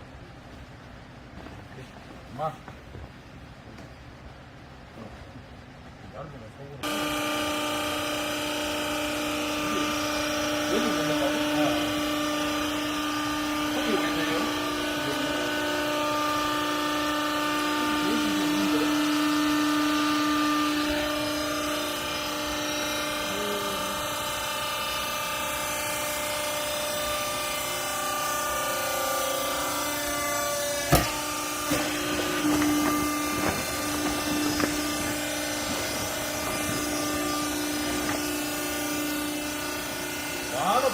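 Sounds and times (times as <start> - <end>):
baler machine hum with whine: 0.0 - 40.9.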